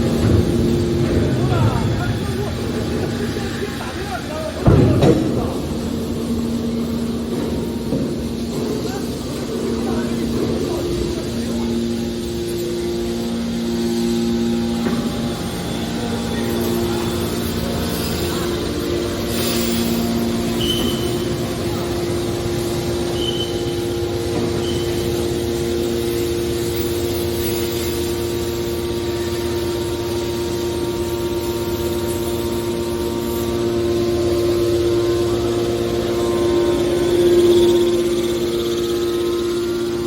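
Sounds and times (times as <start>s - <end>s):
hydraulic machine humming: 0.0s - 40.0s.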